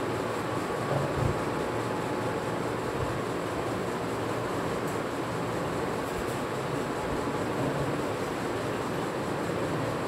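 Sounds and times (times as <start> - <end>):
steady hum and hiss: 0.0 - 10.0.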